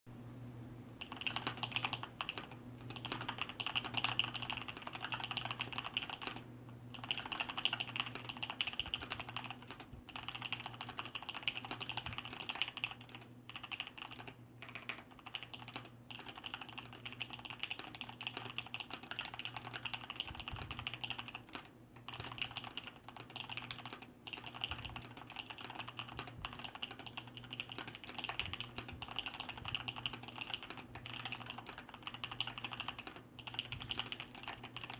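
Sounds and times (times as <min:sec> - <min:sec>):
faint steady hum: 0:00.1 - 0:34.9
fast typing on mechanical keyboard: 0:01.0 - 0:34.9.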